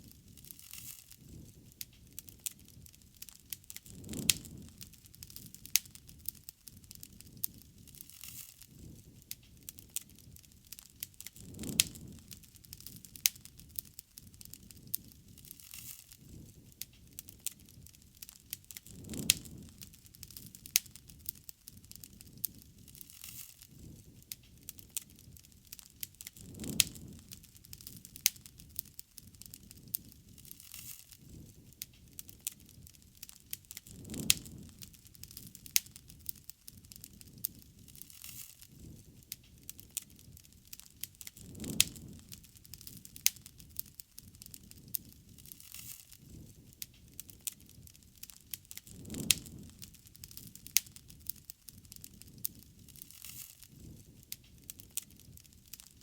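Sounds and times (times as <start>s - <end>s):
bonfire crackling and popping: 0.0s - 56.0s
low rushing of flame: 0.0s - 56.0s.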